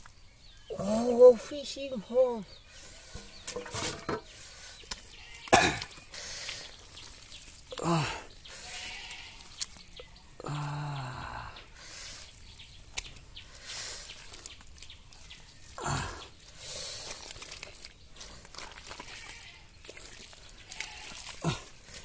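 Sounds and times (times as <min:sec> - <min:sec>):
hands squelching in wet mud: 0:02.7 - 0:22.0
light splashes of muddy water: 0:03.0 - 0:22.0.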